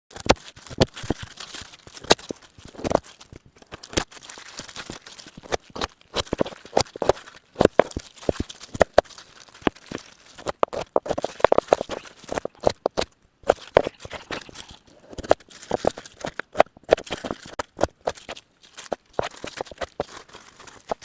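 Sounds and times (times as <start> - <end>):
crisp crunching and clicking: 0.1 - 21.0.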